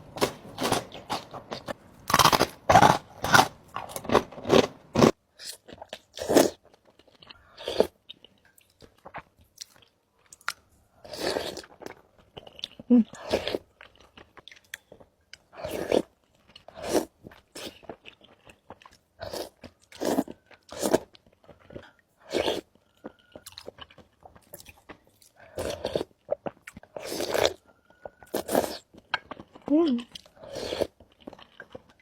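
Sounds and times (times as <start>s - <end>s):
chewing and crunching food: 0.0s - 32.0s.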